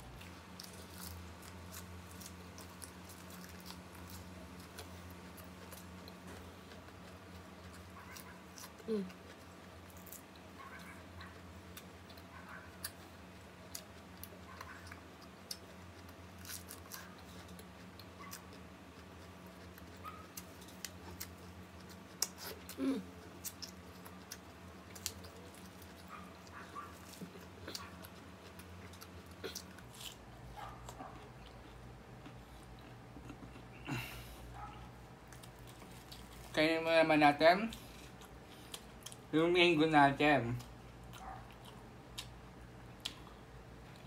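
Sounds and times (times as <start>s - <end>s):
chewing crisp lettuce: 0.0s - 39.3s, 40.2s - 44.0s
steady low hum: 0.0s - 44.0s.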